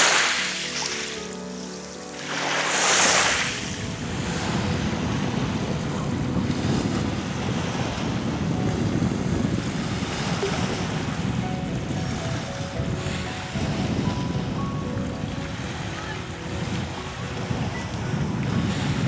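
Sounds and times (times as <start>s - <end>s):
waves lapping on pebbles: 0.0s - 14.6s, 15.2s - 19.0s
wind buffeting microphone: 2.7s - 19.0s.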